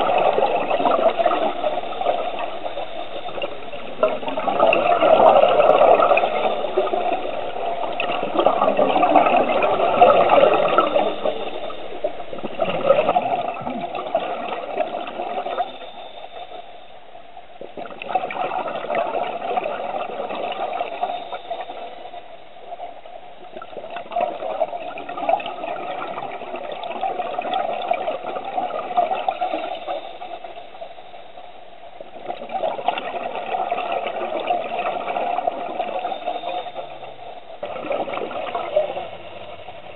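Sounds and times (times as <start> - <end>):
underwater exhaled bubbles rushing: 0.0 - 16.6, 17.6 - 31.1, 32.0 - 39.9.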